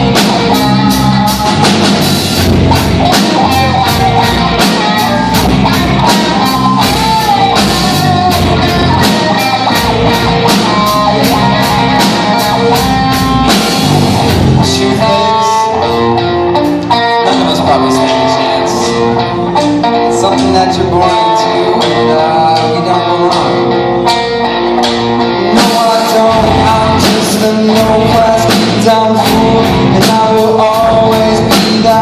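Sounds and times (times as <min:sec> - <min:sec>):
drum kit beat: 0:00.0 - 0:32.0
electric guitar melody: 0:00.0 - 0:32.0.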